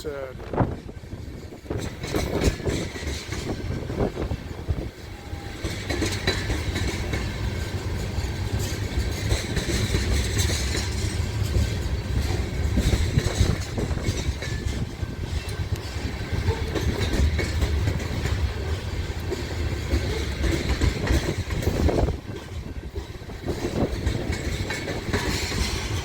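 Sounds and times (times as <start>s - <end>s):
freight train rumbling past: 0.0s - 26.0s
wheels clattering over rails: 1.2s - 26.0s.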